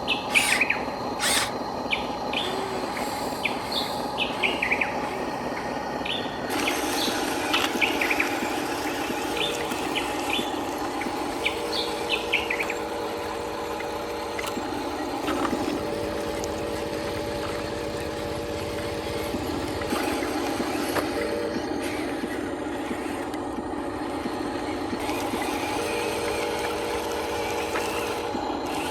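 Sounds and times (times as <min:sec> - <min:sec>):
birds chirping: 0:00.0 - 0:28.8
toy electric motors whining: 0:00.0 - 0:28.9.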